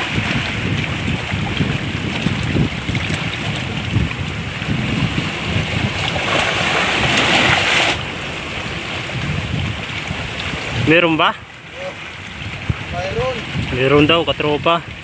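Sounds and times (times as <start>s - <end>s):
rush of splashing water: 0.0s - 15.0s
seawater lapping against rocks: 0.0s - 15.0s
wind buffeting microphone: 0.0s - 15.0s.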